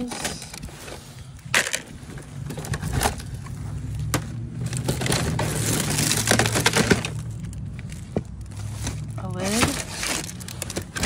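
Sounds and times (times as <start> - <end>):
plastic bags crinkling: 1.4 - 11.0
plastic containers clicking and knocking: 1.5 - 11.0.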